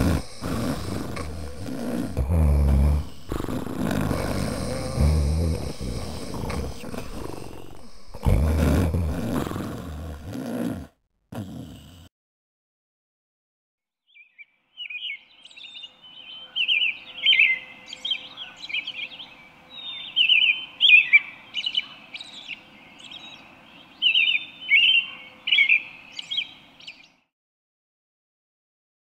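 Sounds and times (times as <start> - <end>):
birds chirping and trilling: 0.0 - 10.6, 14.1 - 27.2.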